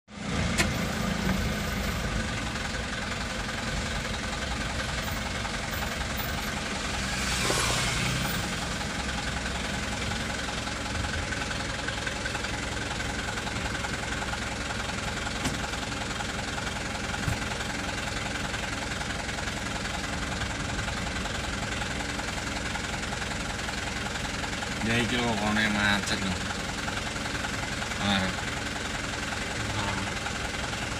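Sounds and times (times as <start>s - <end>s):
vehicle engine running: 0.1s - 30.9s.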